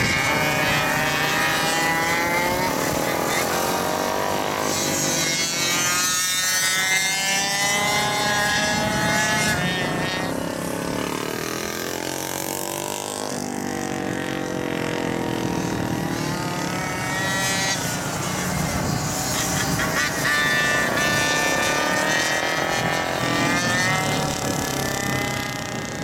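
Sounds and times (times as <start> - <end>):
small racing engines revving: 0.0 - 26.0.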